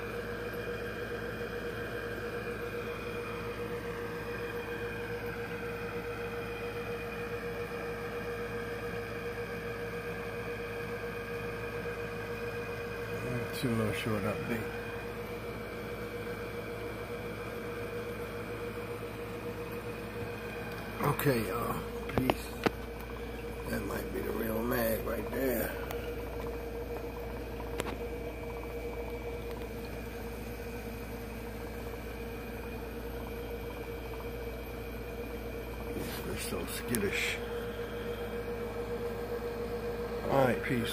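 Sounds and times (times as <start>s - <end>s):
aquarium equipment humming: 0.0s - 40.9s.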